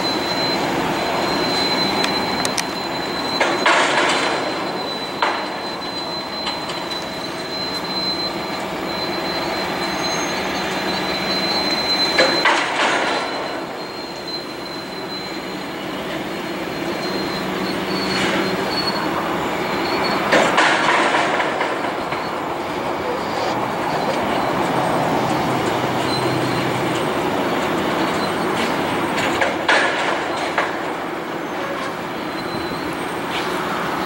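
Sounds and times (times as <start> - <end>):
diesel engines running: 0.0 - 34.0
freight cars rumbling: 0.0 - 34.0
train wheels squealing: 0.0 - 34.0.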